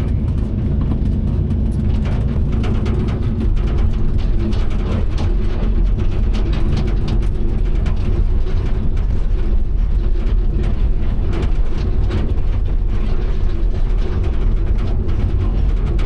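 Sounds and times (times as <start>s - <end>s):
excavator engine rumble: 0.0s - 16.0s
metallic clicking and clanking: 0.0s - 16.0s.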